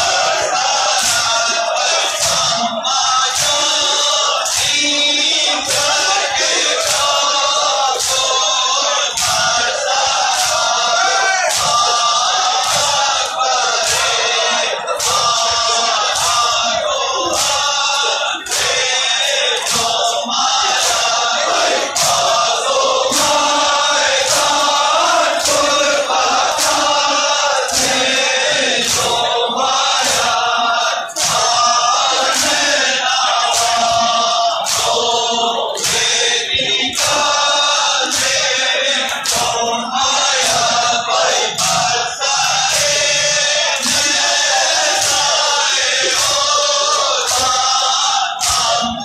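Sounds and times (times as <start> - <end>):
crowd of men chanting: 0.0 - 49.0.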